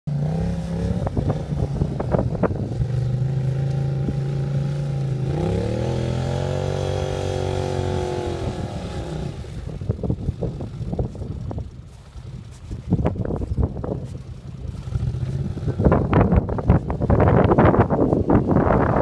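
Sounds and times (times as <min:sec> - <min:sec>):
atv engine running under load: 0:00.1 - 0:19.0.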